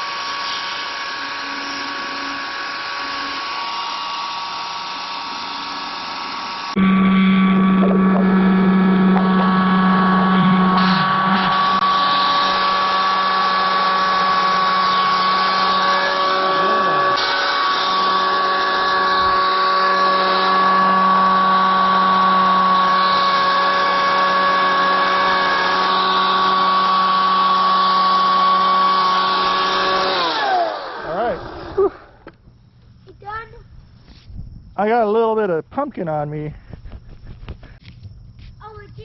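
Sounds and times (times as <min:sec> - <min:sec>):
electric chainsaw whine: 0:00.0 - 0:35.0.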